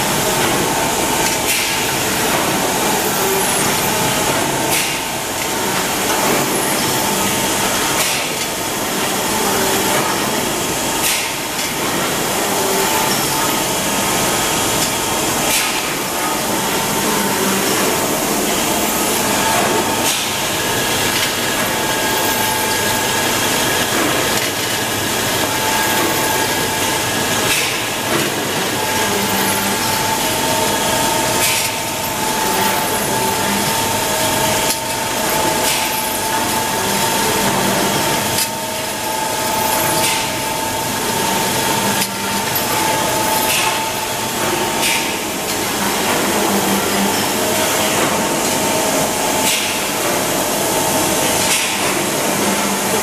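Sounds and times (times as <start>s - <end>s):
machine shop noise: 0.0s - 53.0s.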